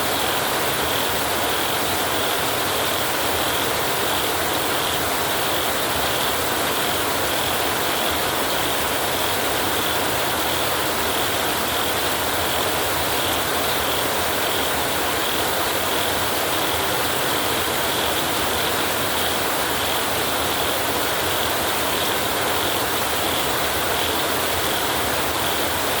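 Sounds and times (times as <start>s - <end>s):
heavy rain on a tin roof: 0.0s - 26.0s.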